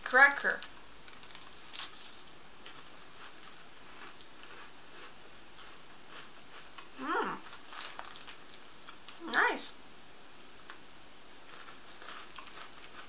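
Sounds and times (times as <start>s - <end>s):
cracker crunching while chewing: 0.0s - 9.2s, 11.4s - 13.0s.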